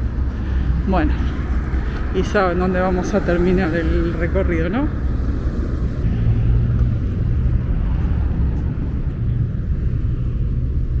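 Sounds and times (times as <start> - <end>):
road traffic engine rumble: 0.0 - 11.0.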